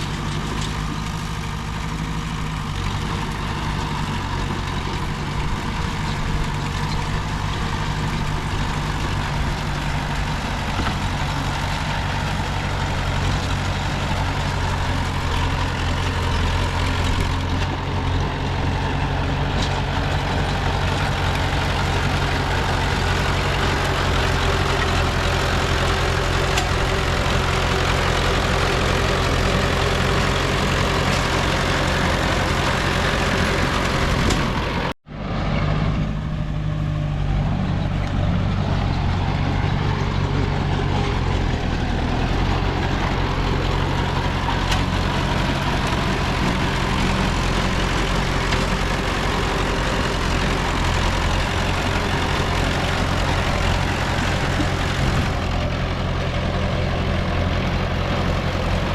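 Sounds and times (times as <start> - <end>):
heavy machinery diesel engine: 0.0 - 58.9.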